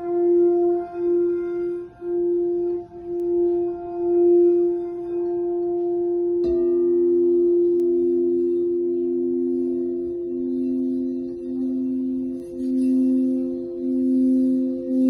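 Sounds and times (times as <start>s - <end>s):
singing bowl ringing: 0.0s - 15.0s
singing bowl struck: 0.0s - 15.0s.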